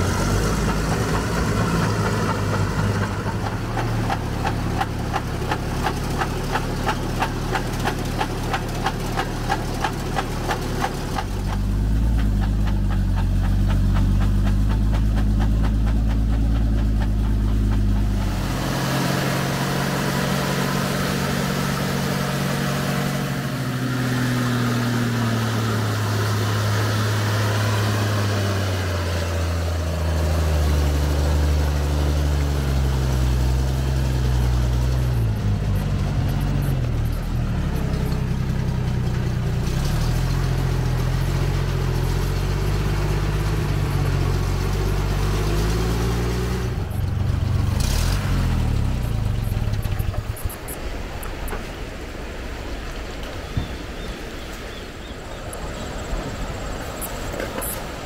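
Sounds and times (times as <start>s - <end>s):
engine knocking: 0.0s - 51.6s
truck engine running and revving: 0.0s - 58.0s.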